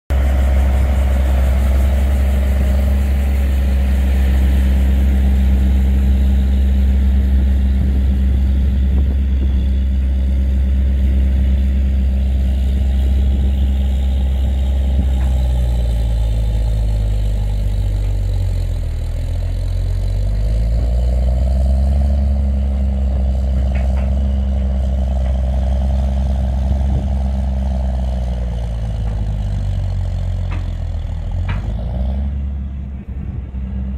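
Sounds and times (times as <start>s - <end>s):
tractor diesel engine labouring: 0.1s - 33.9s.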